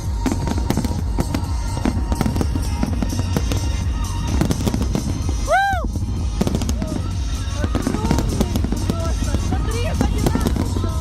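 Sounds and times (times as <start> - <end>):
deep rolling rumble: 0.0 - 11.0
fireworks bangs and crackles: 0.0 - 11.0
music playing: 0.0 - 11.0.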